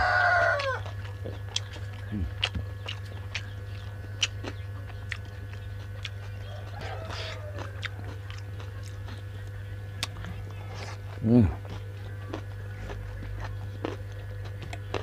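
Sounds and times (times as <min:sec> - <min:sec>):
person chewing and biting: 0:00.0 - 0:15.0.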